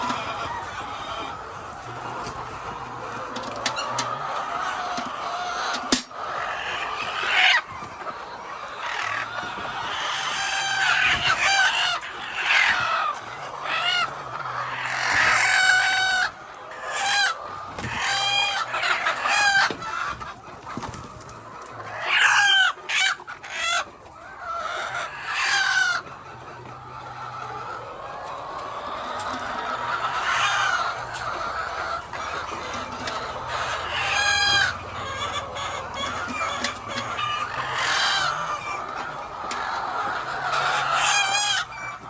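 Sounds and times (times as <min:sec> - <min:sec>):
chickens clucking and squawking: 0:00.0 - 0:42.0.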